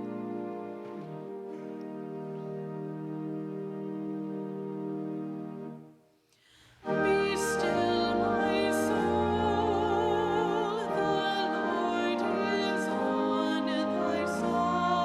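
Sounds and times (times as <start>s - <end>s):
sustained instrumental accompaniment: 0.0s - 6.0s, 6.8s - 15.0s.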